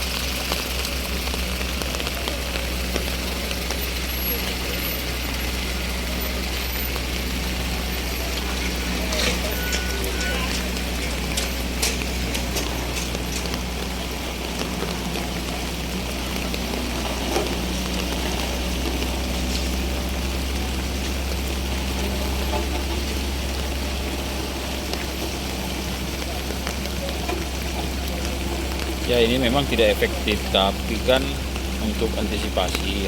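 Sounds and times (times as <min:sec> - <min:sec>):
engine rumble: 0:00.0 - 0:33.0
rain and running water: 0:00.0 - 0:33.0.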